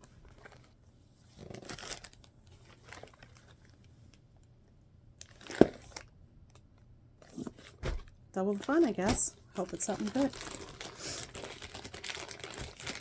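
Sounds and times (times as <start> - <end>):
packaging crinkling and rustling: 0.0 - 4.2, 5.2 - 6.1, 7.3 - 13.0.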